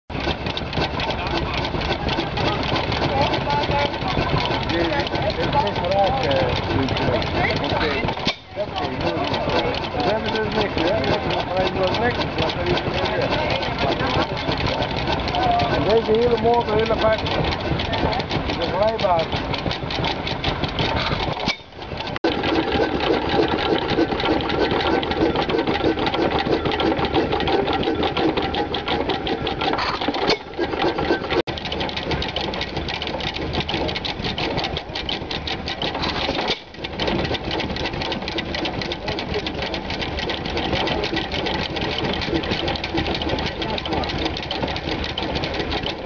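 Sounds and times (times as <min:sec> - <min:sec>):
stationary engine clattering: 0:00.1 - 0:46.0.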